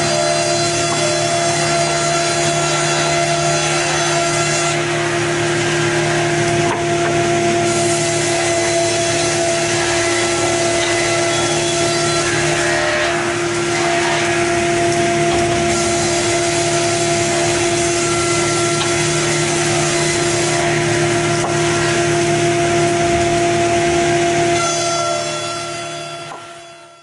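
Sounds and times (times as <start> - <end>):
saw cutting wood: 0.0 - 26.7
board edger machine tone: 0.0 - 27.0.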